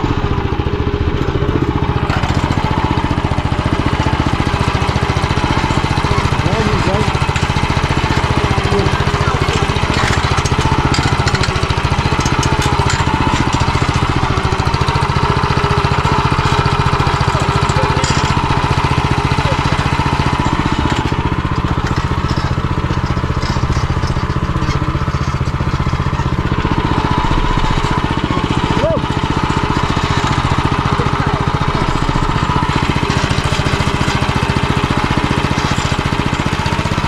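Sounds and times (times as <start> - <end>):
single-cylinder engine running: 0.0 - 37.0.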